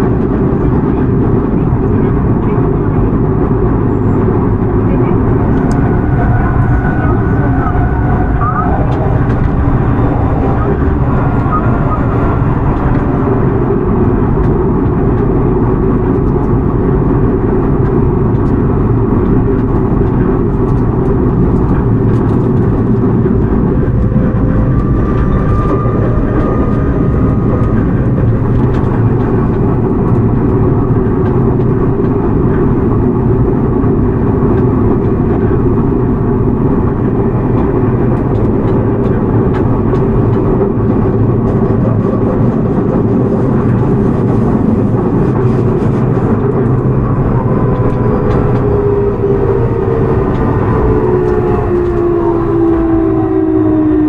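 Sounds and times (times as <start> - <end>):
subway train wheels rumbling: 0.0 - 54.0.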